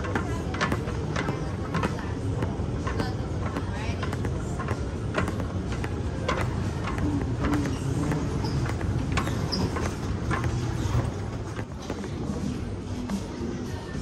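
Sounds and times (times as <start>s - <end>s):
crowded hall hum: 0.0s - 14.0s
footsteps: 0.0s - 14.0s.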